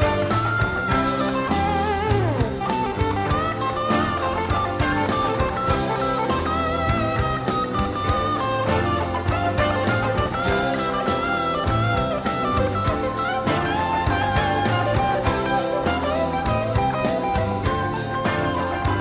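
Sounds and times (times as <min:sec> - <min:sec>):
blues guitar music with beat: 0:00.0 - 0:19.0.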